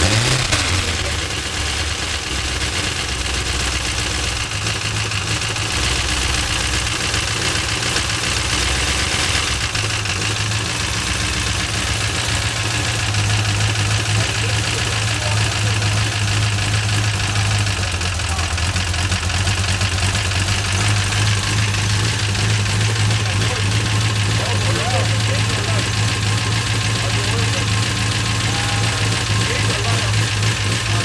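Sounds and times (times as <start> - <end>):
car engine idling: 0.0 - 31.0
engine lifter tapping: 0.0 - 31.0.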